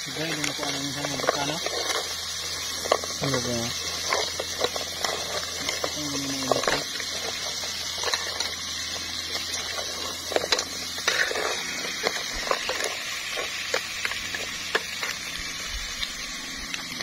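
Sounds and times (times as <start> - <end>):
pot simmering hiss: 0.0 - 17.0.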